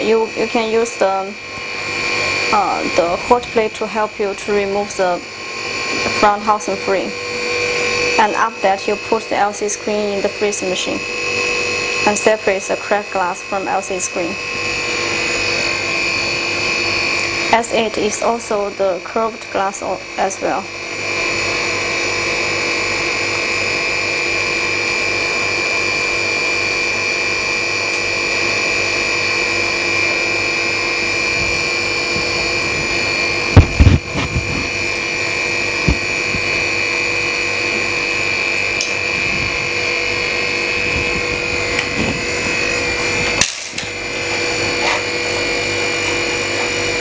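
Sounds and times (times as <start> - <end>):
freezer machine whine: 0.0 - 47.0.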